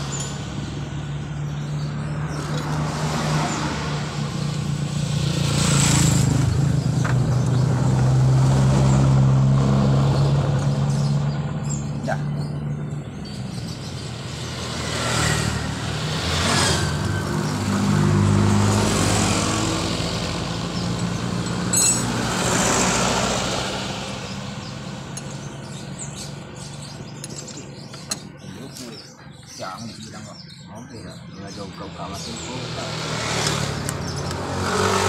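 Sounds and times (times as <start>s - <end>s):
engine revving under load: 0.0s - 35.0s.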